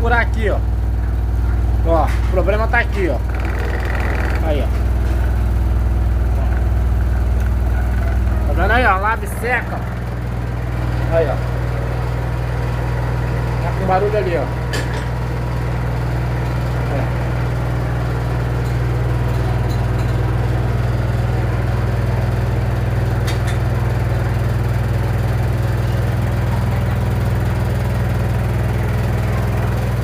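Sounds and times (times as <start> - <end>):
washer-dryer droning: 0.0 - 30.0.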